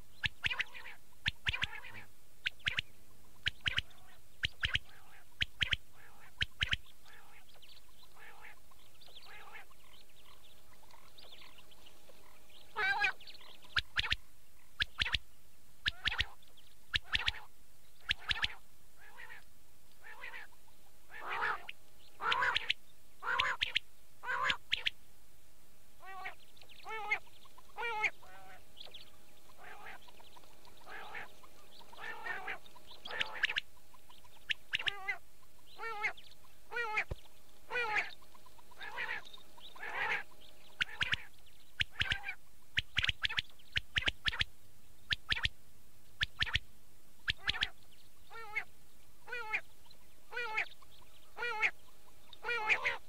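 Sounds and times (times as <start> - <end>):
quail calling: 0.1 - 15.2, 15.8 - 25.0, 26.0 - 44.5, 45.1 - 45.6, 46.2 - 49.7, 50.3 - 53.0.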